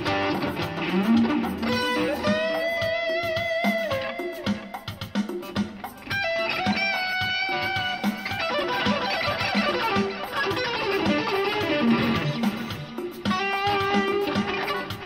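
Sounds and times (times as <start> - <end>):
electric guitar lead: 0.0 - 15.0
steady beat: 0.0 - 15.0.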